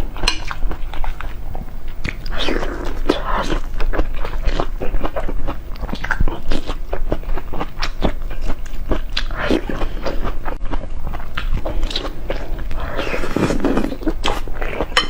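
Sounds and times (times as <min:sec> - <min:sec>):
person chewing and biting: 0:00.2 - 0:15.0.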